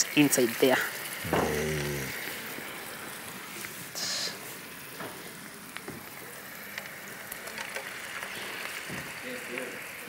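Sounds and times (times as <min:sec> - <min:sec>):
glaze sizzling in a pan: 0:00.0 - 0:10.0.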